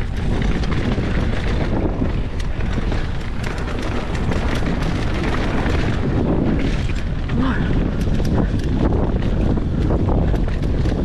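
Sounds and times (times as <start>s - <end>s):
bike rattling over rough ground: 0.0s - 11.0s
wind buffeting microphone: 0.0s - 11.0s.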